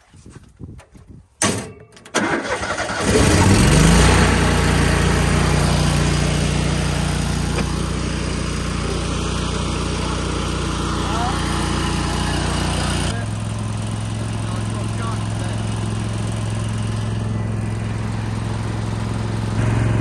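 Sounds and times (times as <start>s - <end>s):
welder engine starting and running: 2.2s - 20.0s.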